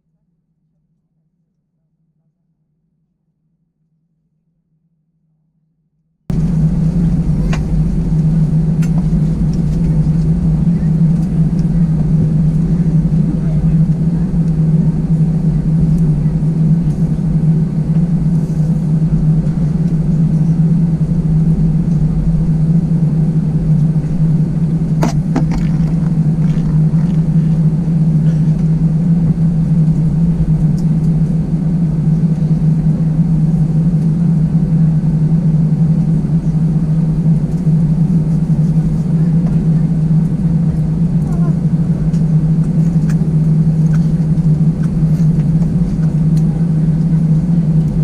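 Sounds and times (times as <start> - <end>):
aircraft cabin drone: 6.3 - 48.0.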